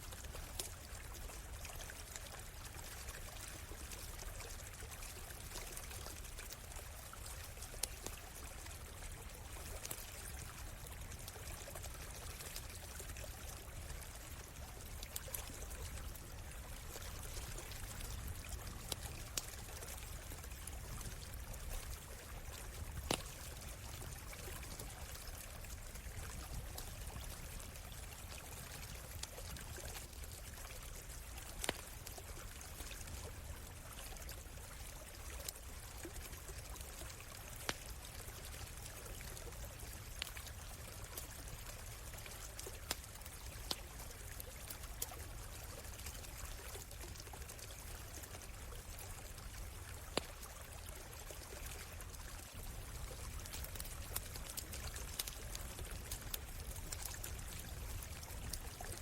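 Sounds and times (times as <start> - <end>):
stream running: 0.0 - 59.0
campfire crackling and popping: 5.5 - 9.0, 9.6 - 34.3, 35.4 - 59.0.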